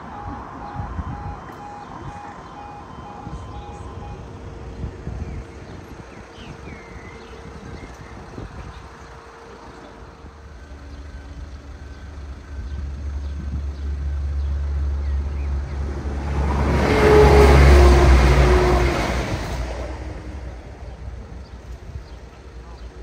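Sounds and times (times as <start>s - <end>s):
train passing: 0.0s - 23.0s
wheels rushing on rail: 0.0s - 23.0s.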